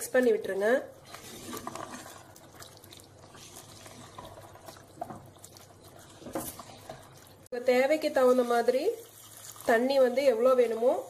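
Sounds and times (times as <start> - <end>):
spatula stirring thick sauce: 1.0 - 11.0.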